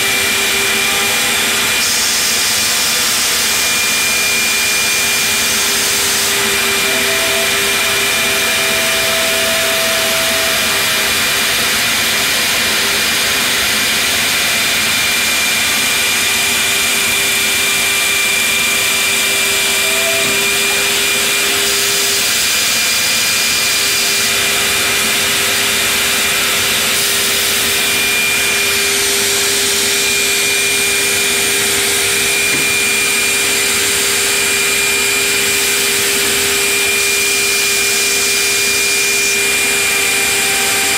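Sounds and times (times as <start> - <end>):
dust extraction rushing: 0.0 - 40.9
router bit whining in wood: 0.0 - 40.9.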